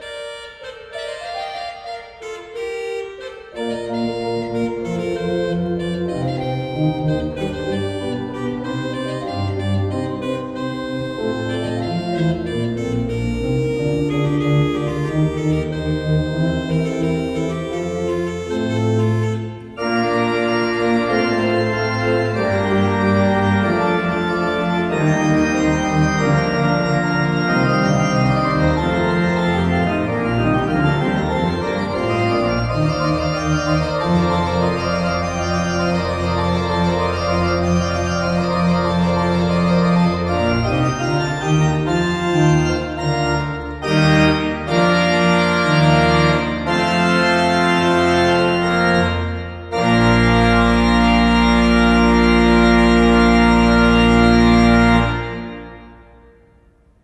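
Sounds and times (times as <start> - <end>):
pipe organ playing chords: 0.0 - 57.0.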